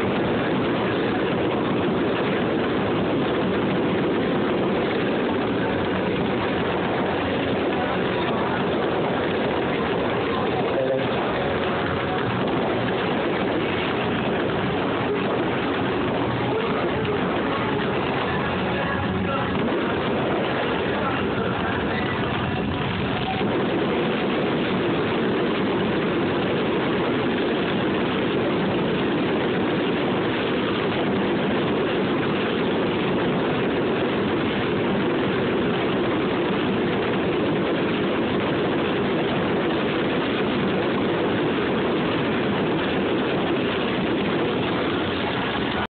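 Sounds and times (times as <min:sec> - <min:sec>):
fountain fireworks spraying sparks: 0:00.0 - 0:45.9.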